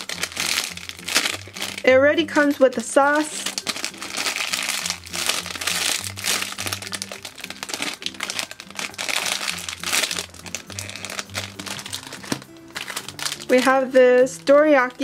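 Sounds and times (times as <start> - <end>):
background music with bass line: 0.0 - 15.0
plastic bag crinkling: 0.0 - 15.0.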